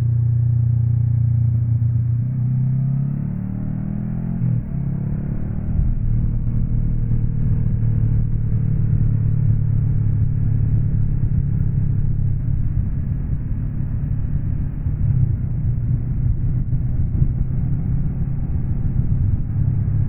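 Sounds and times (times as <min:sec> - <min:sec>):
motorcycle engine humming: 0:00.0 - 0:20.0
road and wind noise: 0:00.0 - 0:20.0.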